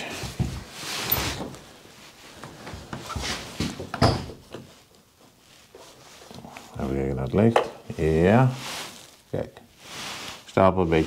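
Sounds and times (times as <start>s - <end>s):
rustling: 0.2s - 11.0s.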